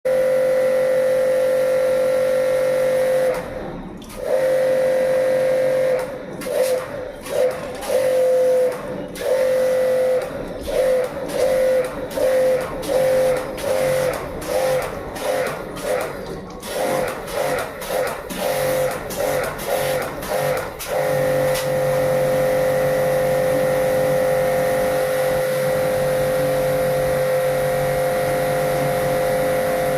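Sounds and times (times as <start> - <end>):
machine whine: 0.1 - 29.9.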